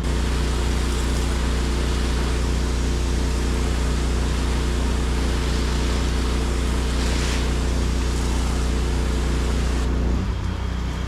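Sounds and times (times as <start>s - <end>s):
high-pressure spray hissing: 0.0s - 9.9s
pressure washer engine running: 0.0s - 10.9s.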